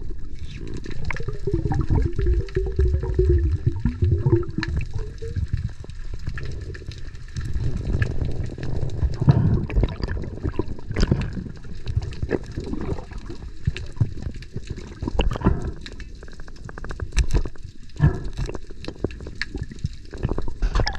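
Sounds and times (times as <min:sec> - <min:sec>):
underwater rumbling and gurgling: 0:00.0 - 0:20.9.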